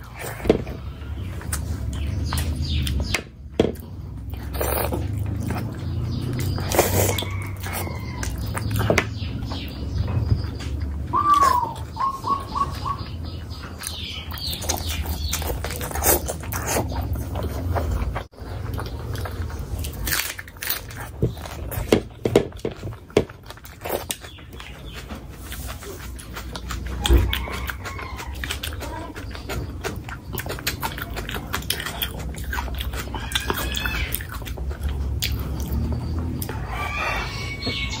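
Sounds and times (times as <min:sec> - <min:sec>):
person chewing: 0:00.0 - 0:09.8, 0:10.6 - 0:38.0.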